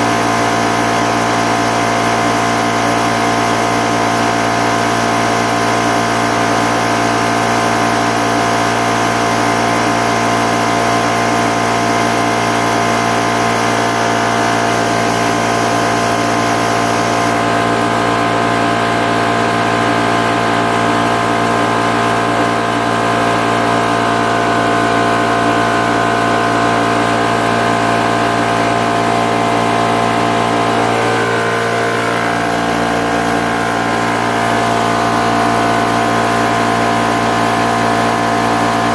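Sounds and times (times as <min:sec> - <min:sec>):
air compressor humming: 0:00.0 - 0:38.9.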